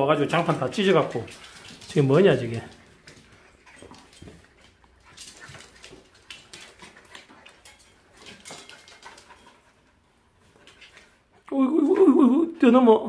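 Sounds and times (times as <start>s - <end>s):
paws clicking on wooden floor: 0.0s - 11.4s.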